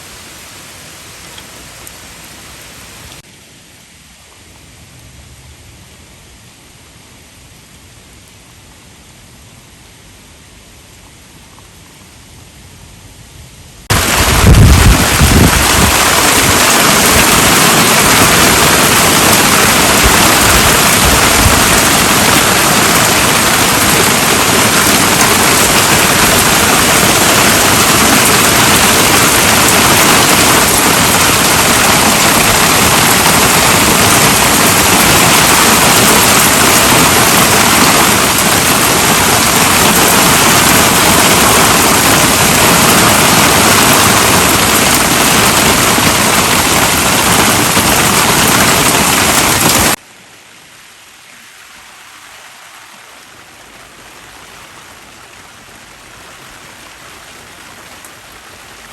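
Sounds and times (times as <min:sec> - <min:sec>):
heavy rain hissing: 0:00.0 - 0:03.6, 0:13.8 - 0:58.9.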